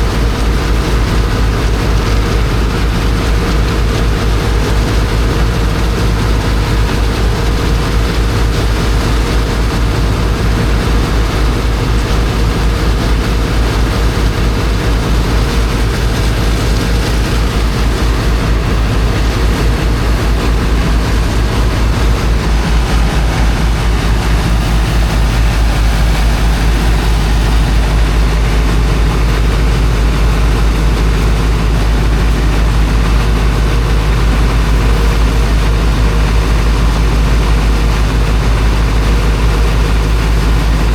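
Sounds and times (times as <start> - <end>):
water pump engine throbbing: 0.0 - 40.9.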